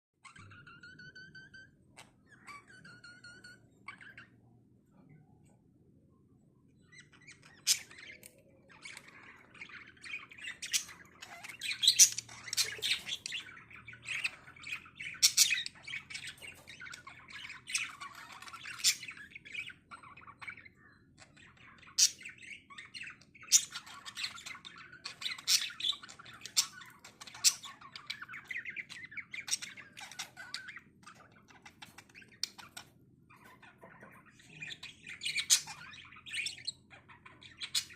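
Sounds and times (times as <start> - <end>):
lovebirds chattering and squawking: 0.2 - 5.6, 6.6 - 37.9.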